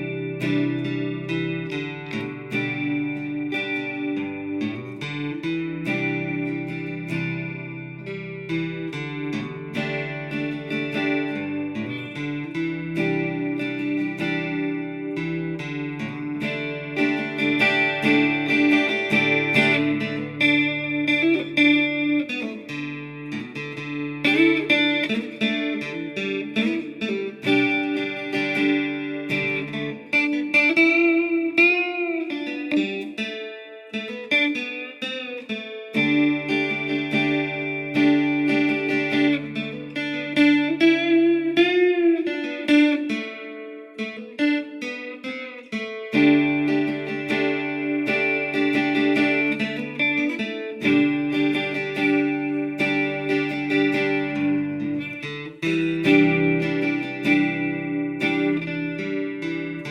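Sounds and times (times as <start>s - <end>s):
acoustic guitar picked melody: 0.0s - 59.9s.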